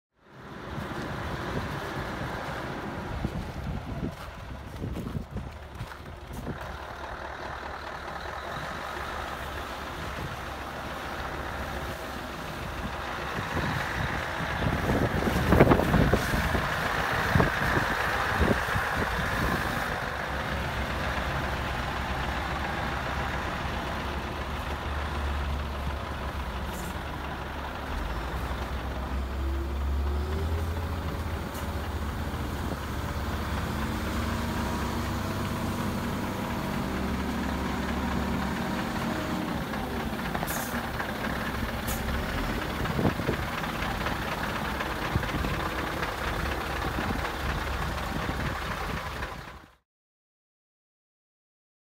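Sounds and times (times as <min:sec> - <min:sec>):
truck diesel engine running: 0:00.3 - 0:49.8.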